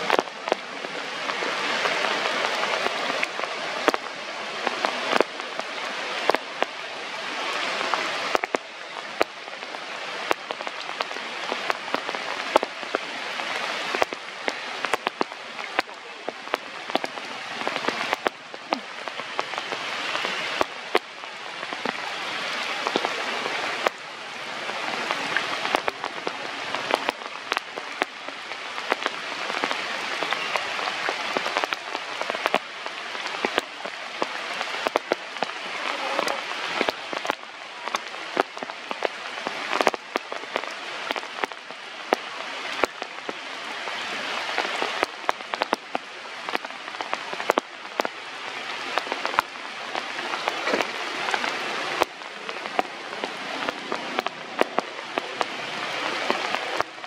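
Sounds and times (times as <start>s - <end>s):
rain falling: 0.0s - 57.0s
raindrops striking close by: 0.0s - 57.0s.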